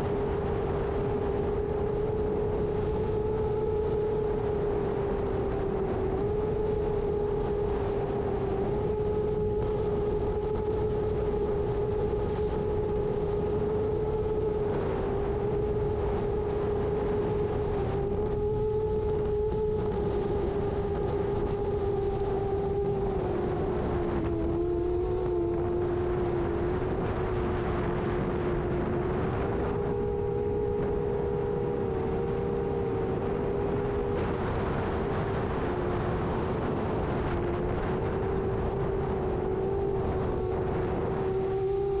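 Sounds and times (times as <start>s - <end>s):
drone propellers humming: 0.0s - 42.0s
strong gusty wind: 0.0s - 42.0s.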